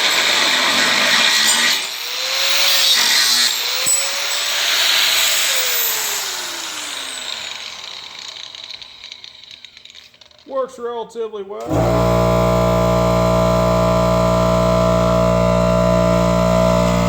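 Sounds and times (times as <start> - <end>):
angle grinder grinding: 0.0 - 10.5, 11.6 - 17.0.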